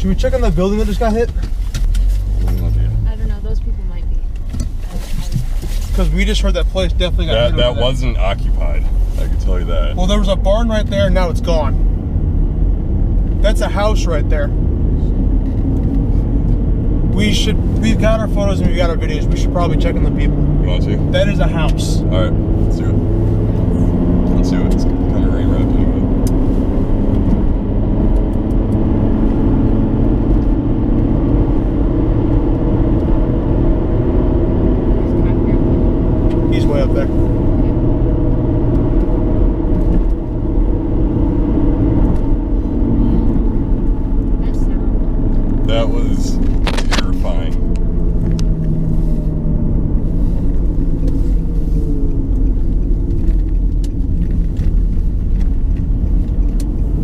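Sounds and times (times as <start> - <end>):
car road noise rumble: 0.0 - 57.0.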